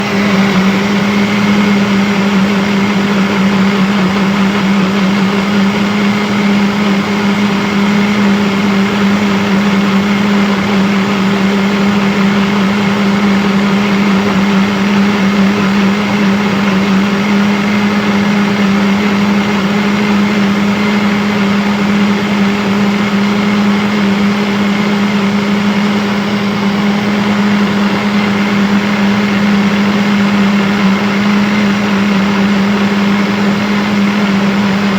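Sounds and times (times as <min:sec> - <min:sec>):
blender motor whirring: 0:00.0 - 0:34.9.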